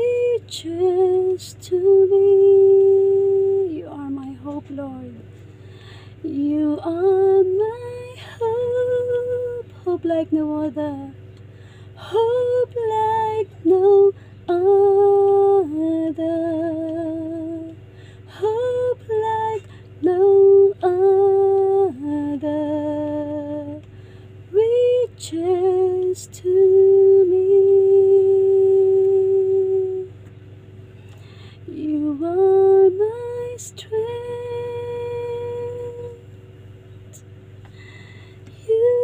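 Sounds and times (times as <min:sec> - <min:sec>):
woman singing without words: 0:00.0 - 0:05.3, 0:06.1 - 0:11.2, 0:11.8 - 0:30.2, 0:31.5 - 0:36.4, 0:37.1 - 0:39.0.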